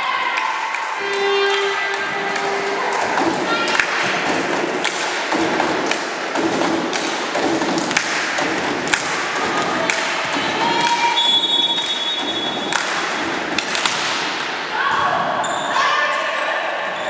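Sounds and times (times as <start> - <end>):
sharp thuds echoing in a hall: 0.0 - 17.0.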